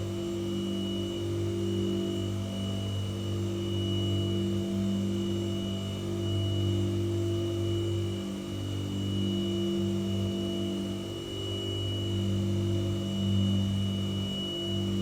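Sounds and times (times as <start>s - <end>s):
faint high whine: 0.0s - 15.0s
white noise machine hum and hiss: 0.0s - 15.0s.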